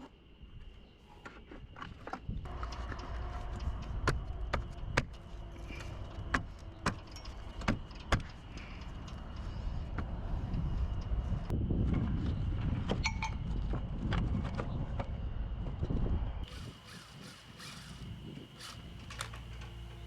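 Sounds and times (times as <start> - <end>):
steady low rumble: 2.4 - 20.0.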